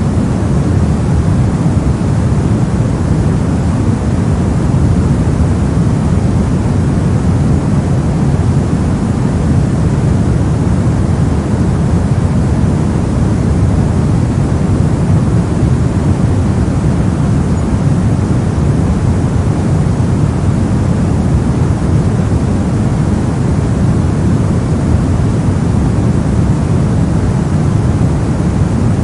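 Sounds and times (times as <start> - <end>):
brown noise: 0.0 - 29.0.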